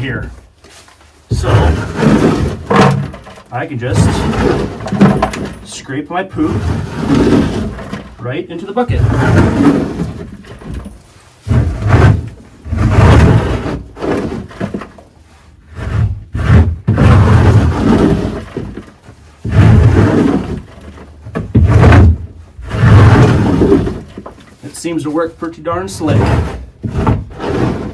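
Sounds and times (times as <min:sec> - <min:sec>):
scraper scraping a board: 0:01.3 - 0:27.9.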